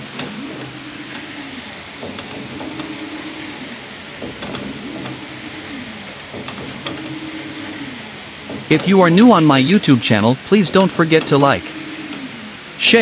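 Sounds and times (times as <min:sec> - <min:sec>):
water churning: 0:00.0 - 0:11.8
washing machine motor hum: 0:00.0 - 0:13.0.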